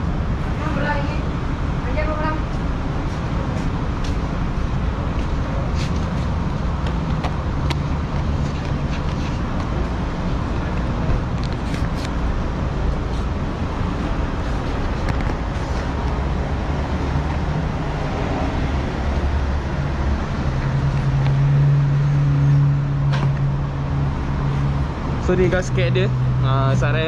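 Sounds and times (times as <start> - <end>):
road traffic: 0.0 - 27.0
vehicle engine rumbling: 0.0 - 27.0.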